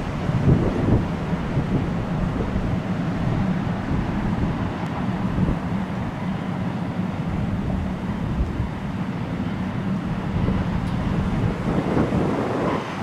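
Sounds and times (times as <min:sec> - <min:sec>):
distant train rumble: 0:00.0 - 0:13.0
wind buffeting microphone: 0:00.0 - 0:13.0.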